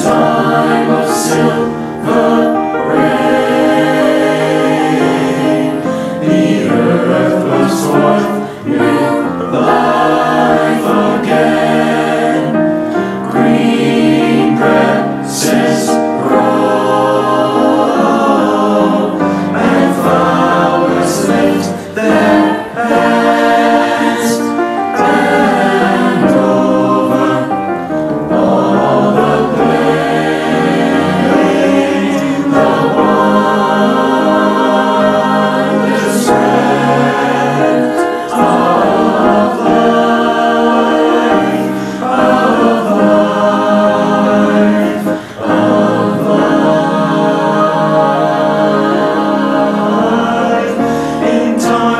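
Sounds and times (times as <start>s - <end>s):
choir singing in harmony: 0.0s - 51.9s.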